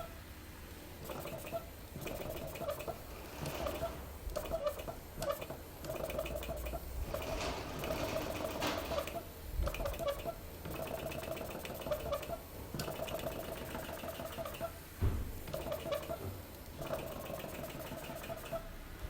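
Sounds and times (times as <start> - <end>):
toy steam engine chuffing: 1.0 - 14.8, 15.5 - 16.2, 16.8 - 18.7.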